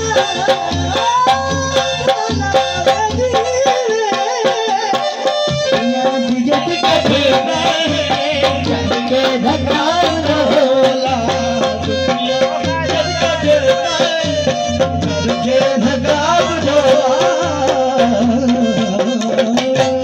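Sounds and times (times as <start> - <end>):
harmonium: 0.0 - 20.0
man singing: 0.0 - 20.0
tabla strikes: 0.0 - 20.0.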